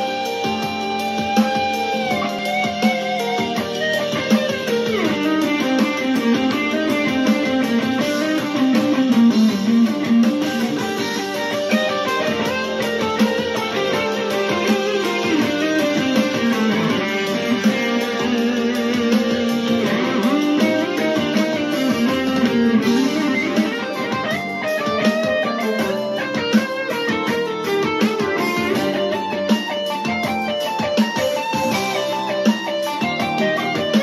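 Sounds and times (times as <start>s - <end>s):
electric guitar melody: 0.0s - 34.0s.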